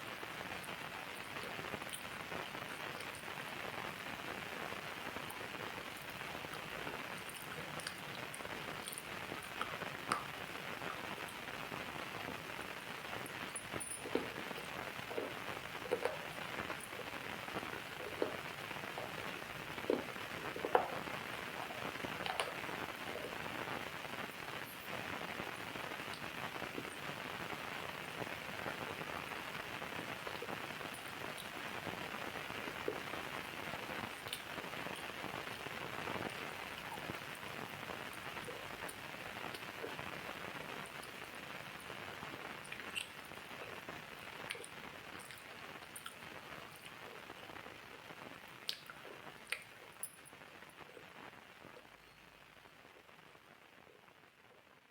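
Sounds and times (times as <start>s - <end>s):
rain falling: 0.0s - 54.9s
single raindrops striking surface: 0.6s - 51.1s.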